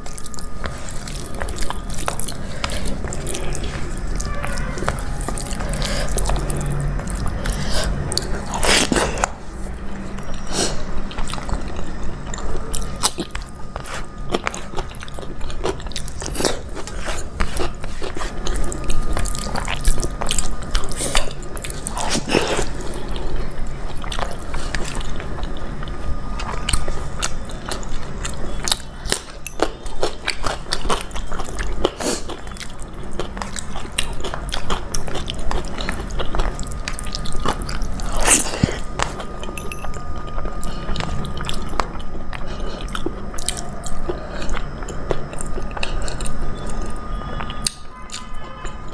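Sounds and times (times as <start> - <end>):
person chewing crunchy food: 0.0 - 48.9.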